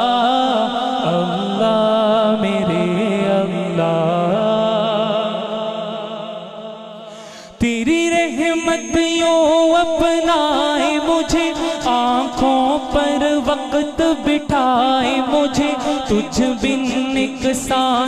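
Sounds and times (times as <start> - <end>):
man singing ornamented melody: 0.0 - 18.0.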